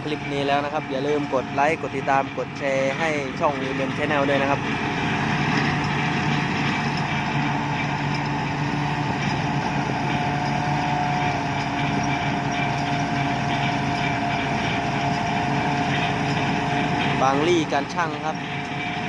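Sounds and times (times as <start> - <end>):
harvester engine hum: 0.0 - 19.0.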